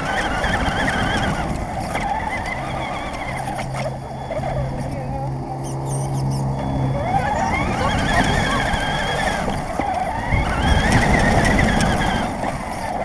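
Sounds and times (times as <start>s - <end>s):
rc car motor whining: 0.0s - 13.0s
tyres rumbling over pavement: 0.0s - 13.0s.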